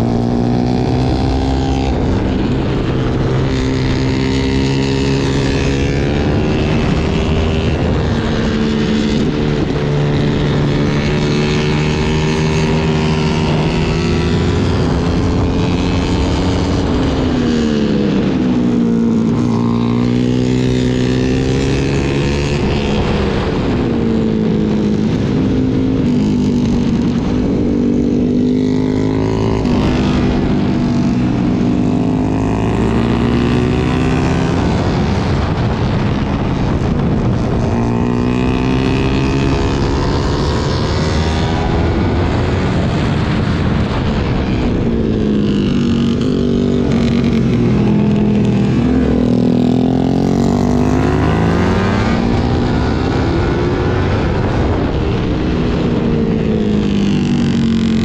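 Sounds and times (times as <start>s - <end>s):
motorcycle engine revving: 0.0s - 58.0s
wind rush: 0.0s - 58.0s.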